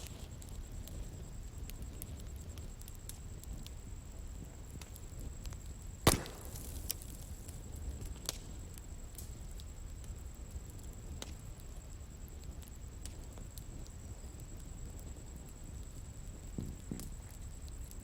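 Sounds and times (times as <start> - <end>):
burning wood popping and crackling: 0.0 - 18.0
low rumble of flames: 0.0 - 18.0.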